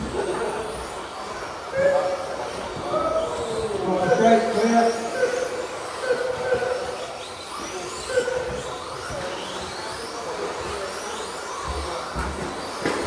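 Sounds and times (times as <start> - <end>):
rc truck engines whining: 0.0 - 13.0.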